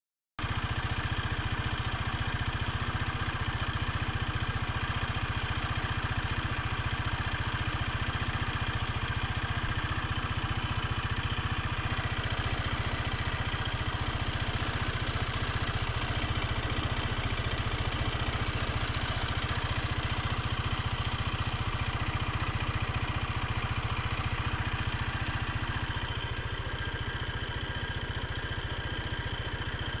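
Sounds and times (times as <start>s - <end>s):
motorcycle engine idling: 0.4s - 30.0s.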